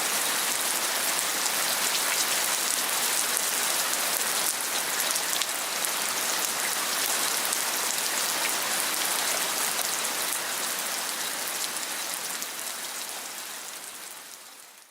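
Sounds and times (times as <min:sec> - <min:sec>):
heavy rain falling: 0:00.0 - 0:14.8.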